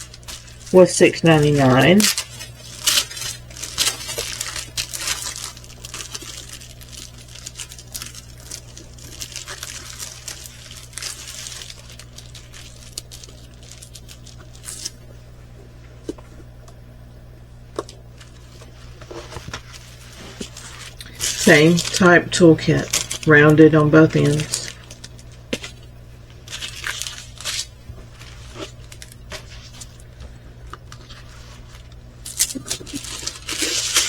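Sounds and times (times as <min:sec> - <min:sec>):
packaging crinkling and rustling: 0:00.0 - 0:15.2, 0:17.7 - 0:34.0.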